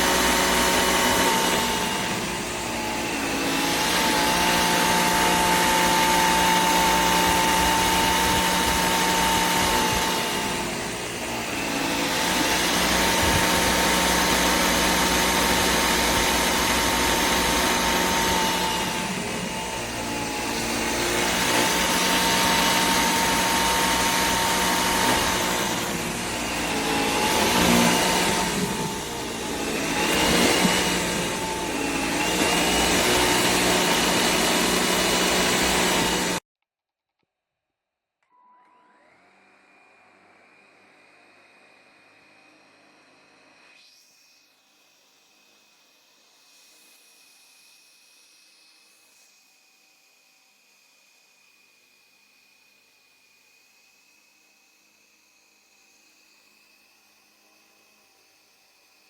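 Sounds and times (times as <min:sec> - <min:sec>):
stick vacuum motor whine: 0:00.0 - 0:36.4, 0:38.4 - 0:59.0.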